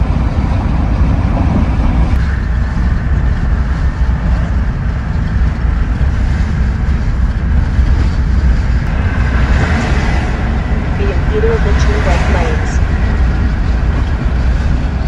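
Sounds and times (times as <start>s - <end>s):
road and wind noise in vehicle: 0.0s - 15.0s.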